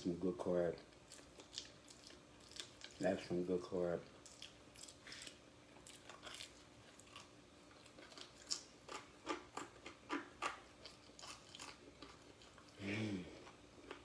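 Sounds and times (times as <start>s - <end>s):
person chewing bread: 0.9s - 3.0s, 4.1s - 14.0s.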